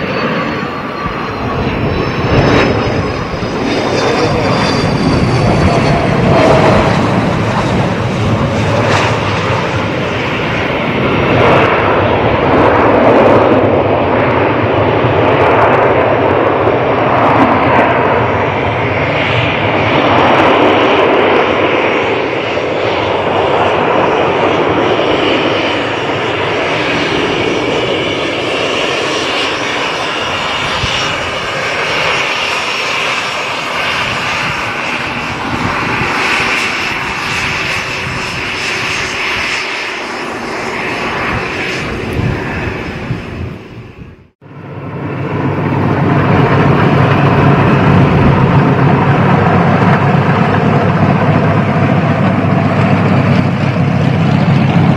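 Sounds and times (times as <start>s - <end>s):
jet engines running: 0.0s - 54.9s
steady high whine: 0.0s - 54.9s.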